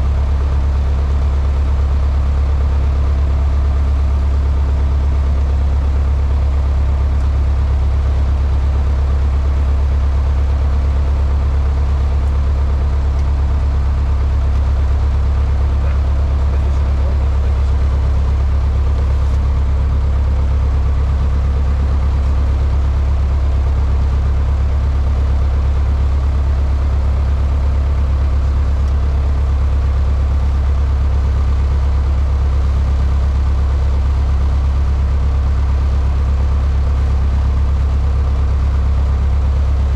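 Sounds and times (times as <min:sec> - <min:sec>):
small plane engine droning: 0:00.0 - 0:39.9.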